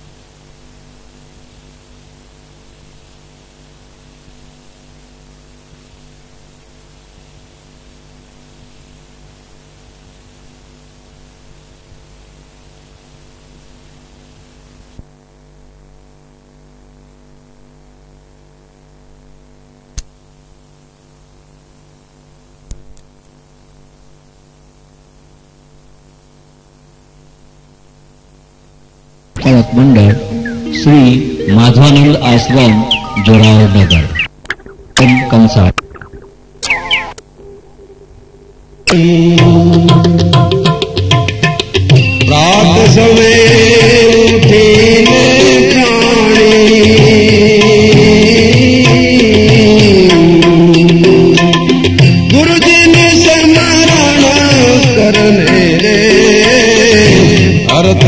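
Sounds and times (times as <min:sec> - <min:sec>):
faint mains hum: 0:00.0 - 0:58.0
recording hiss: 0:00.0 - 0:58.0.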